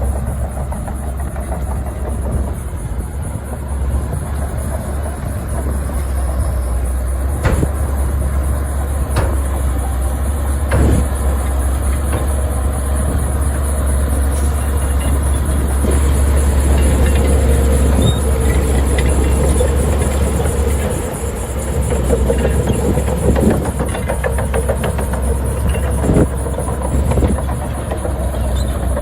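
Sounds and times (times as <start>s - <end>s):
diesel machinery rumbling: 0.0s - 29.0s.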